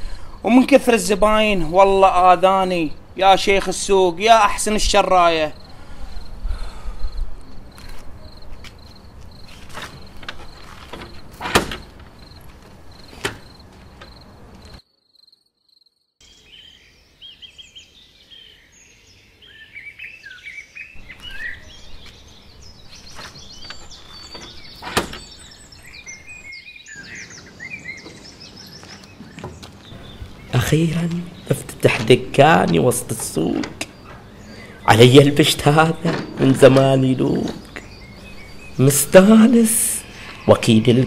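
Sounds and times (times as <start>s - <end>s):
small birds chirping: 0.0s - 14.8s, 16.2s - 41.0s.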